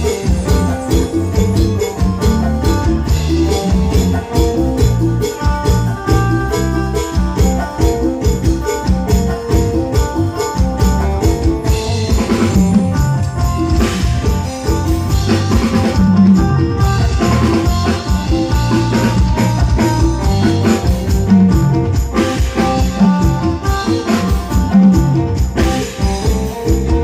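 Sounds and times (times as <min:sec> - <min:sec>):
band music with drum beat: 0:00.0 - 0:27.0.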